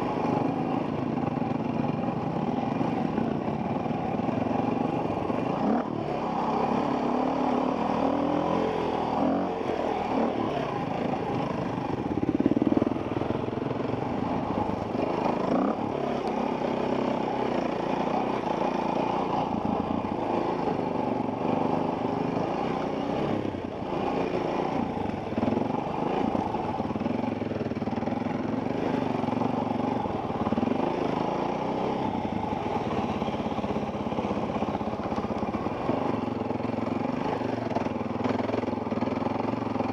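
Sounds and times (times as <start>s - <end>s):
dirt bike engine revving: 2.4s - 39.9s.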